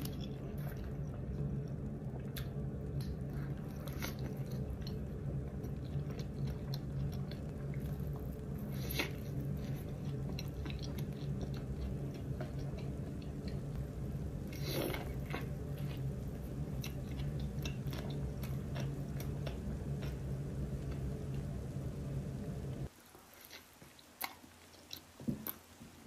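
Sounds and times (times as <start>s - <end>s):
biting and chewing burger: 0.0s - 21.1s
steady low hum: 0.0s - 26.0s.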